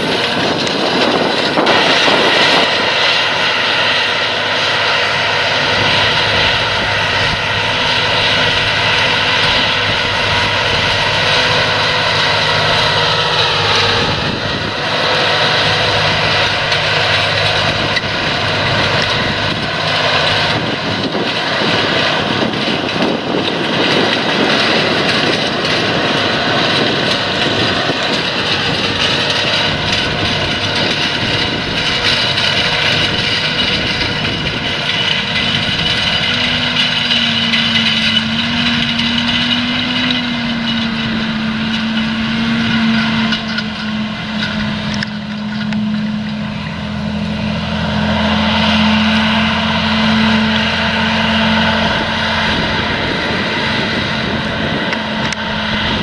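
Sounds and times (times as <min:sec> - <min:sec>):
cultivator working dry soil: 0:00.0 - 0:56.0
tractor diesel engine under load: 0:00.0 - 0:56.0.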